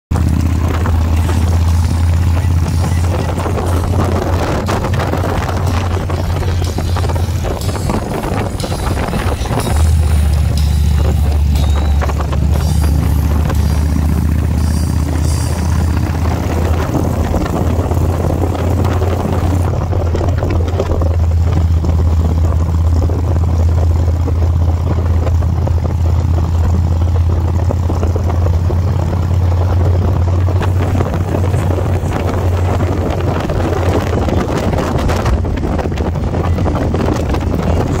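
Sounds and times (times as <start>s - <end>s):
motorcycle engine drone: 0.1s - 38.0s.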